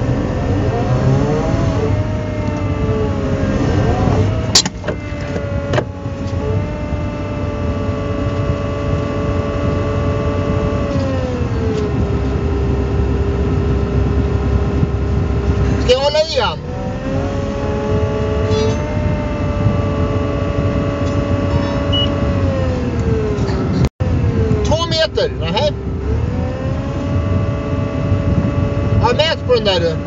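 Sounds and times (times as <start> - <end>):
excavator diesel engine with whine: 0.0 - 30.0.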